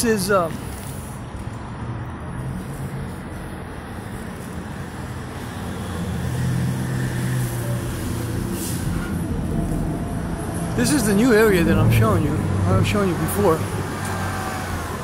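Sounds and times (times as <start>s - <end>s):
steady road noise: 0.0s - 15.0s
vehicle engine hum: 0.0s - 15.0s.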